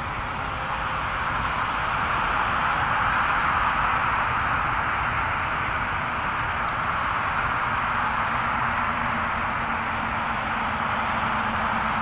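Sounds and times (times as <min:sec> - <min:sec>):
jet engines at takeoff thrust: 0:00.0 - 0:12.0.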